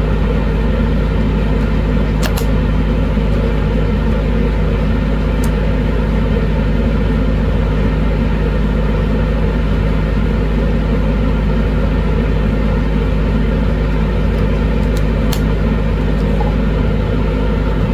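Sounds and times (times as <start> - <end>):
blower fan rushing air: 0.0 - 17.9
constant low hum: 0.0 - 17.9.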